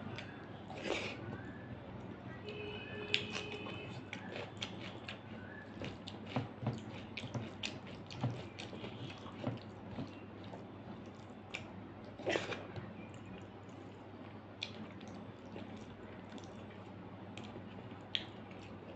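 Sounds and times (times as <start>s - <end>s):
wet chewing and smacking: 2.4s - 18.9s.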